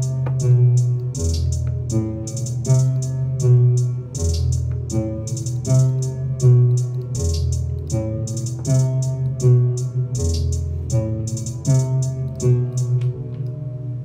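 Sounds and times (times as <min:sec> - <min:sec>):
deep bass notes: 0:00.0 - 0:14.0
plucked string melody: 0:00.0 - 0:14.0.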